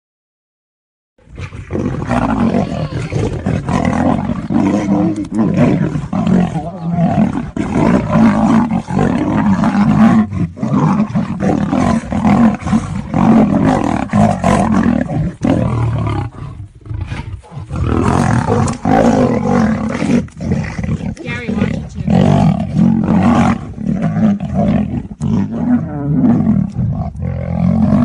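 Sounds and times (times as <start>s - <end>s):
big cats roaring: 1.2s - 28.0s.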